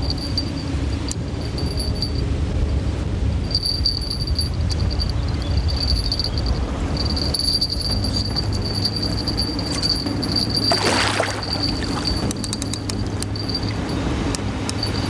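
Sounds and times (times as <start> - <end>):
fishing reel drag whining: 0.0 - 2.2, 3.4 - 15.0
river rumble: 0.0 - 15.0
wind: 0.0 - 15.0.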